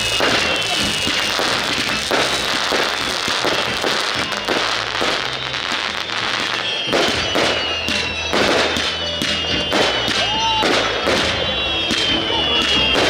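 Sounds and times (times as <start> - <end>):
fireworks crackling and banging: 0.0 - 13.0
music playing: 0.0 - 13.0.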